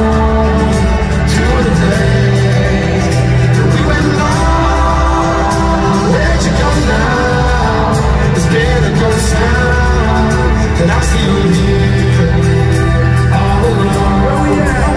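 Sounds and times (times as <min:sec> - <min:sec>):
live band with singer: 0:00.0 - 0:14.9.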